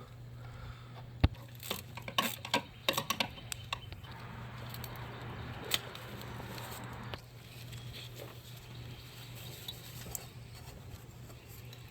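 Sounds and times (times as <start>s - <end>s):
steady rustling: 1.4s - 11.9s.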